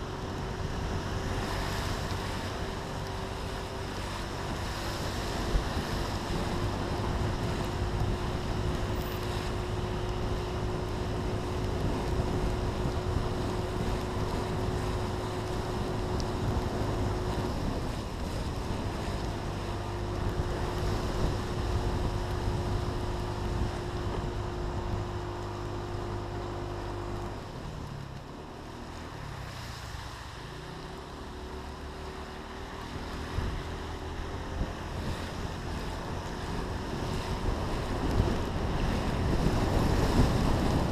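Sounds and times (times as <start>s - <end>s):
wind and rain on camera: 0.0s - 40.9s.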